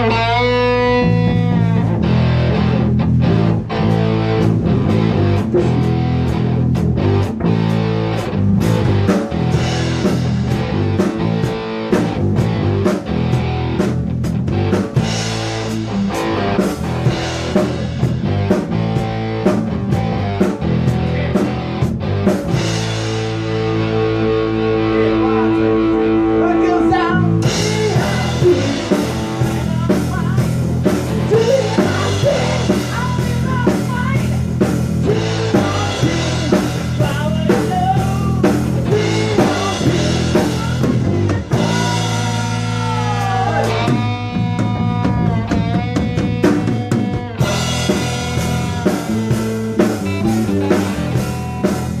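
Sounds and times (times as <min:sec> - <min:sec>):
drum kit: 0:00.0 - 0:52.0
guitar with bending notes: 0:00.0 - 0:52.0.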